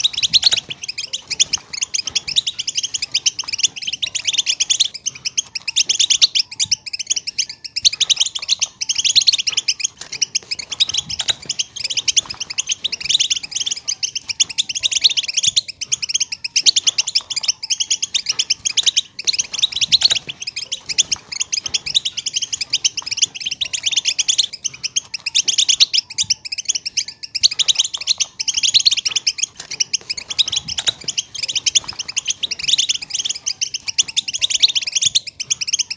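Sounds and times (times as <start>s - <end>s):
goldfinches twittering: 0.0s - 35.9s.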